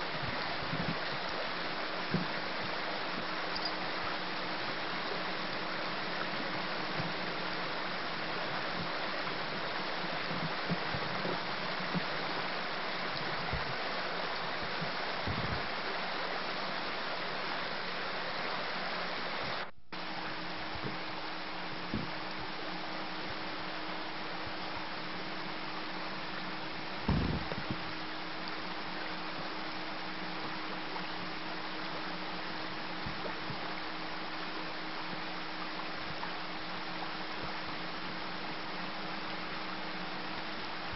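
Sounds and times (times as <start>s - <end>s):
creek water rushing over stones: 0.0s - 40.9s.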